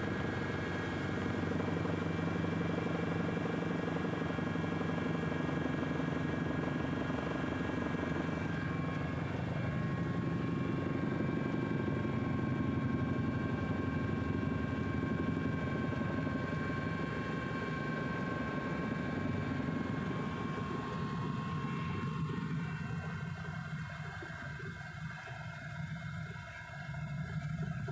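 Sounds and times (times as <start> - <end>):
helicopter rotor and engine rumble: 0.0 - 27.9
turbine whine: 0.0 - 27.9.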